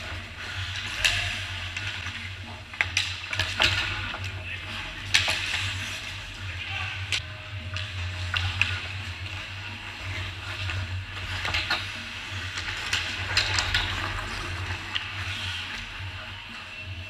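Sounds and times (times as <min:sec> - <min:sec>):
hockey sticks and puck clacking: 0:00.0 - 0:17.0
skates scraping on ice: 0:00.0 - 0:17.0
steady low hum: 0:00.0 - 0:17.0.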